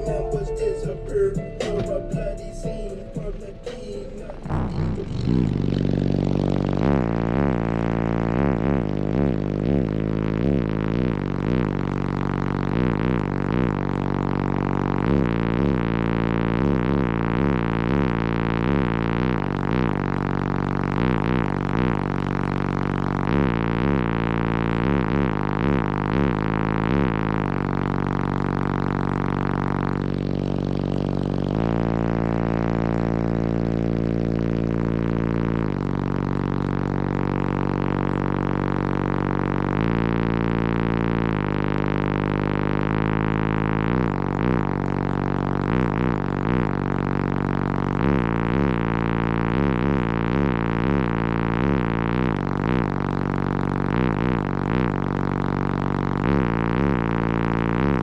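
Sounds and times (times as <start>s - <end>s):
bass-heavy song through car subwoofers: 0.0s - 58.0s.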